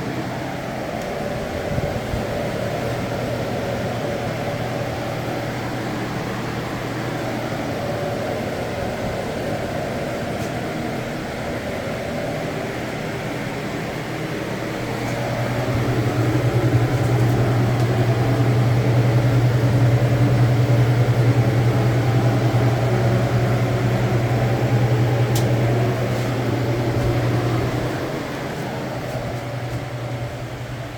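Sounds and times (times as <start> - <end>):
refrigeration unit humming: 0.0 - 30.9.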